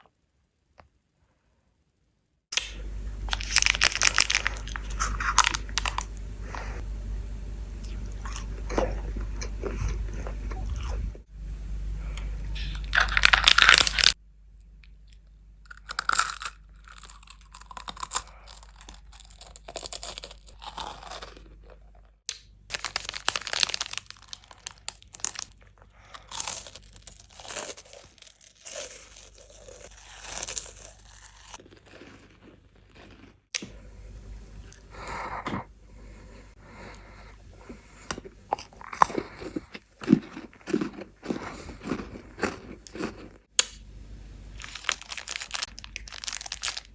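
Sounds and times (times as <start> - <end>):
crunching and chewing candy: 2.6 - 6.8, 7.7 - 11.3, 12.1 - 43.8, 44.5 - 46.9.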